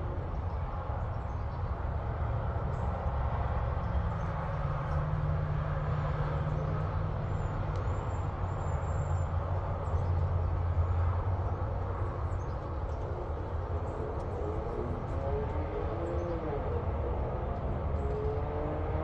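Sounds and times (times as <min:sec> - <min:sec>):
low outdoor rumble with hum: 0:00.0 - 0:19.0.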